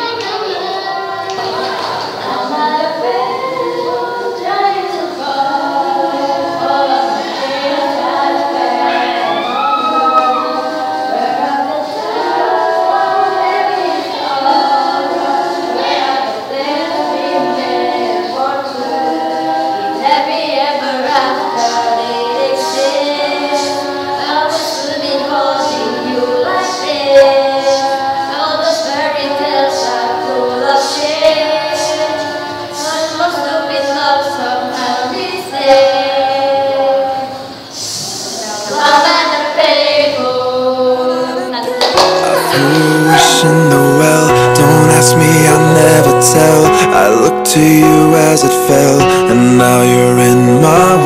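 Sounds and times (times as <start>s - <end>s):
female voices singing a cappella: 0.0s - 51.0s.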